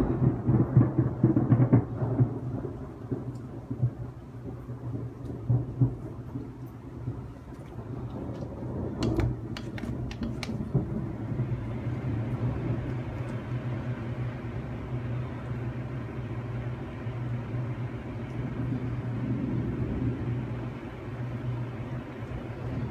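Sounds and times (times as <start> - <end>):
sharp thunder crackles: 0.0 - 15.2, 17.4 - 22.9
constant low hum: 0.0 - 22.9
thunder rumbling: 0.0 - 22.9.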